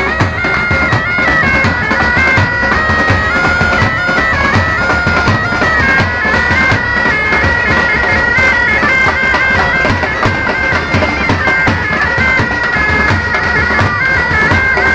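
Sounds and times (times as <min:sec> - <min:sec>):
bagpipes playing melody: 0:00.0 - 0:14.9
marching drums beating: 0:00.0 - 0:14.9.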